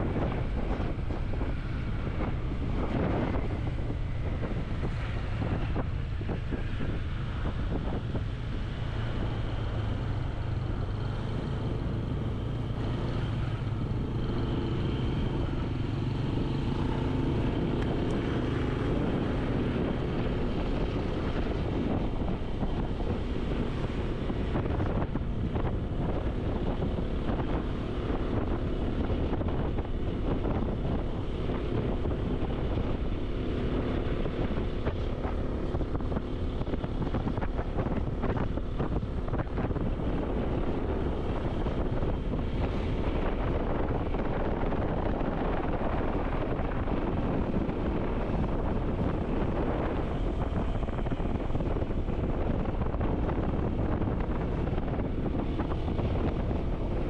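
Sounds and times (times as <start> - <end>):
road noise: 0.0 - 57.0
vehicle engine running: 0.0 - 57.0
wind buffeting microphone: 0.0 - 57.0.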